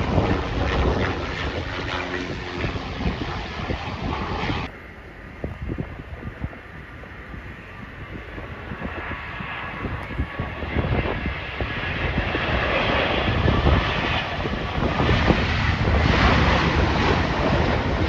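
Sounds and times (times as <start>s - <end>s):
jet airliner engine rumble: 0.0s - 18.0s.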